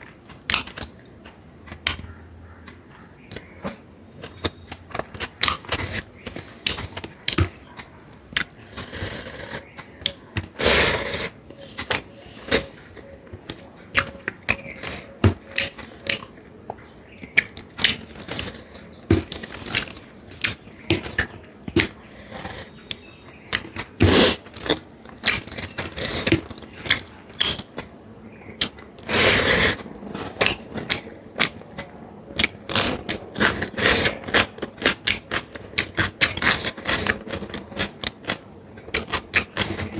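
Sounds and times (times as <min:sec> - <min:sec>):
wet chewing and mouth smacking: 0:00.1 - 0:29.2, 0:29.8 - 0:39.9.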